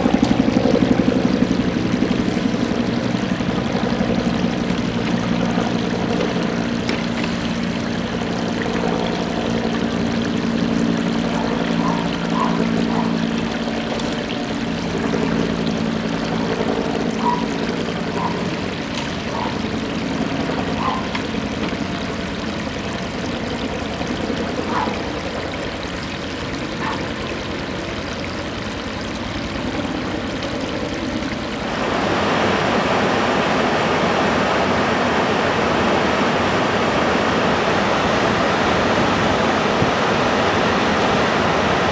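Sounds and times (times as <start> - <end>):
engine running: 0.0 - 41.9
water rushing: 0.0 - 41.9.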